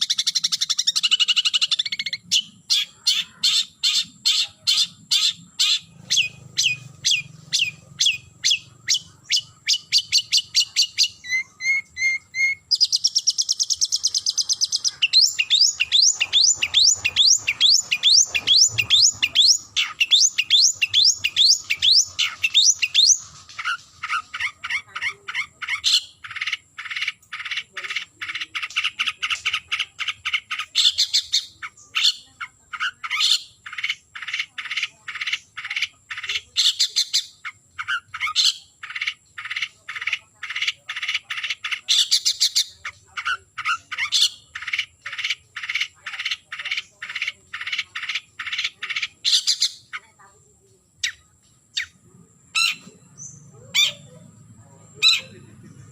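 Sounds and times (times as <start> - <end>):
buzzy bird trill: 0.0 - 50.3, 51.0 - 55.9.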